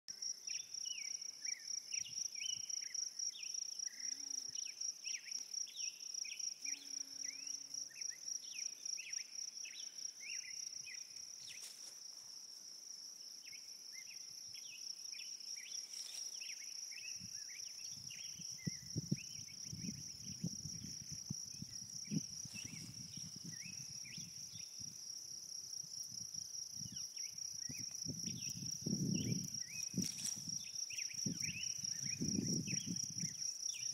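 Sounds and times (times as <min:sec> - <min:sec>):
high insect trill: 0:00.2 - 0:33.9.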